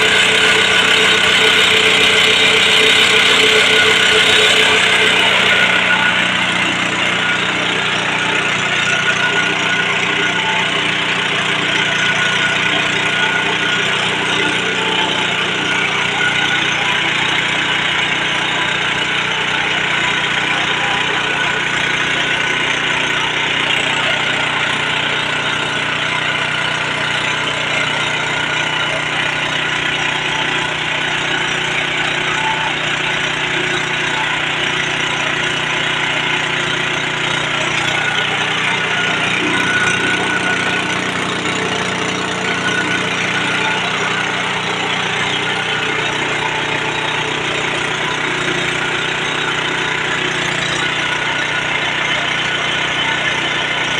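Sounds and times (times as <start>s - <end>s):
rice milling machine droning: 0.0s - 53.9s.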